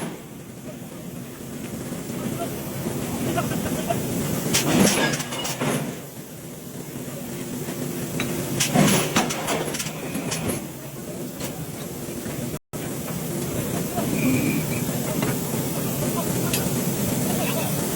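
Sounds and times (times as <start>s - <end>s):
heavy forging machinery running: 0.0s - 17.9s.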